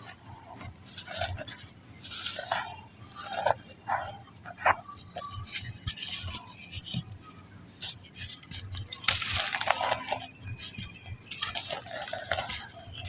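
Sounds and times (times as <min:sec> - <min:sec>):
sand balls crunching: 0:00.0 - 0:07.0, 0:08.6 - 0:13.0.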